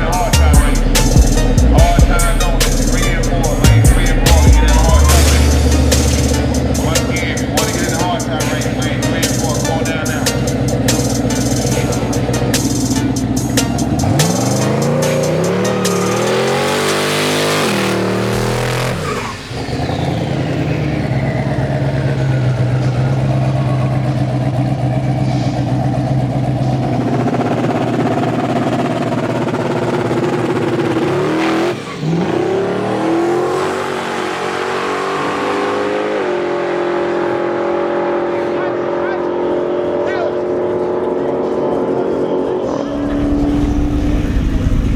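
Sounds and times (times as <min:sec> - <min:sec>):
race car engines revving: 0:00.0 - 0:44.9.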